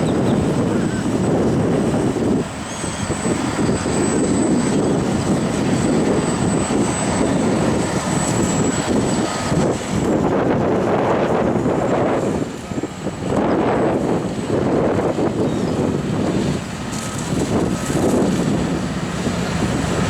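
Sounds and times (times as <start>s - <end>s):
truck engine rough rumble: 0.0s - 20.0s.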